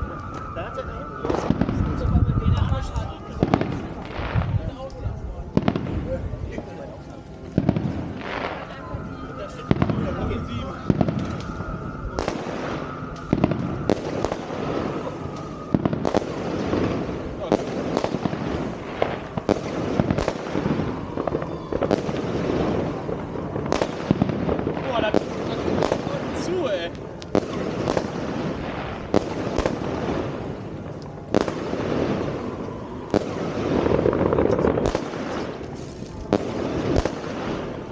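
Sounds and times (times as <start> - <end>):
fireworks bangs: 0.0 - 37.9
fireworks crackling: 0.0 - 37.9.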